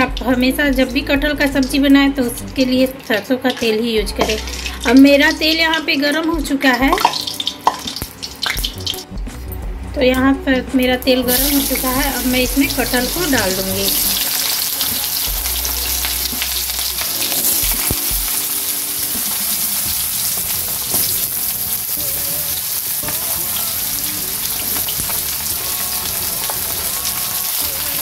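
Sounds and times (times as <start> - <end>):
food sizzling in hot oil: 1.6 - 9.1, 11.3 - 28.0.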